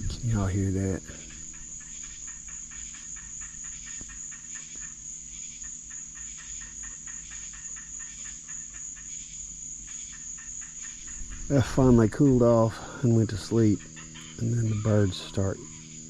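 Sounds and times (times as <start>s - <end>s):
high-pitched insect drone: 0.0s - 16.0s
rapid pulsing calls: 0.0s - 16.0s.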